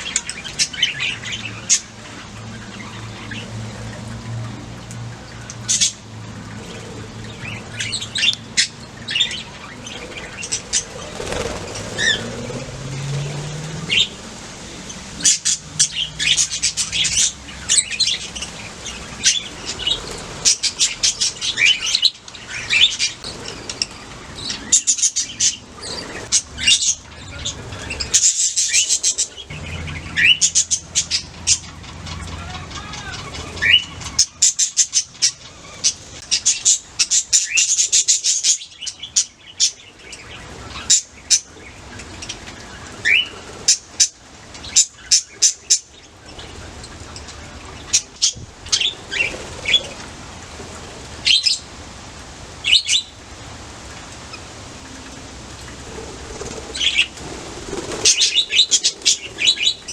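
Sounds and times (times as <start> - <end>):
budgerigars chirping and chattering: 0.0 - 50.1, 55.8 - 59.9.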